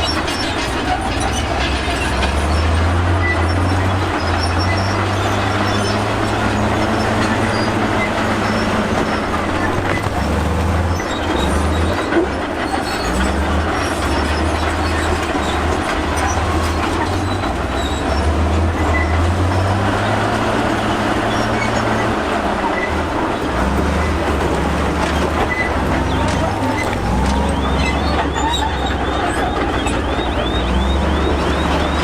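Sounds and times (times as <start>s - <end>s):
bulldozer diesel engine: 0.0s - 32.0s
steel tracks clattering and grinding: 0.0s - 32.0s.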